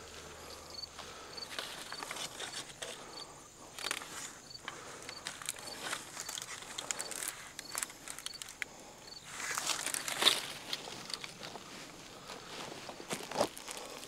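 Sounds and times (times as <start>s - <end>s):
footsteps in dry vegetation: 0.0s - 14.0s.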